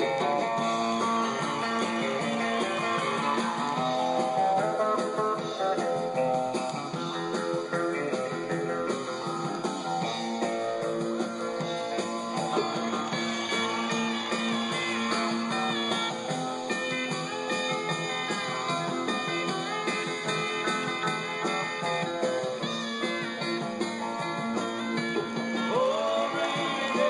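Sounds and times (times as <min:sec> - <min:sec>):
country music on vinyl: 0:00.0 - 0:27.0.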